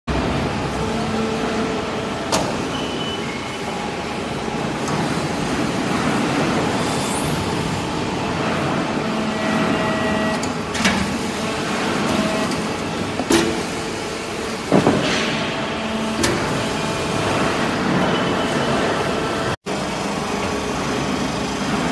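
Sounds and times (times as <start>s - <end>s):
hydraulic machine hum: 0.1s - 21.9s.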